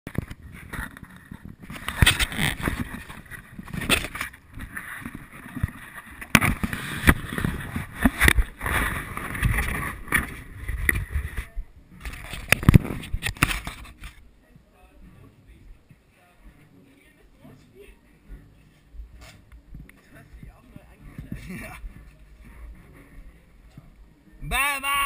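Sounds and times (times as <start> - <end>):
camera rubbing against clothing: 0.1 - 14.3, 18.1 - 24.0.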